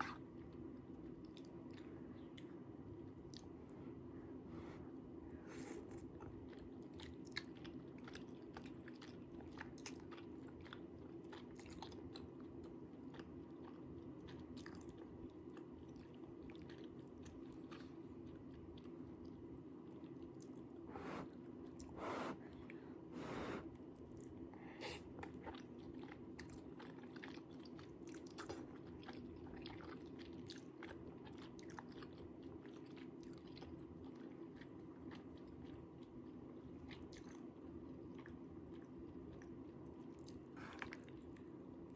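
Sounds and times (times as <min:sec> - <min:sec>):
steady low hum: 0:00.0 - 0:41.9
chewing and biting rice cakes: 0:05.8 - 0:22.7, 0:23.8 - 0:41.9.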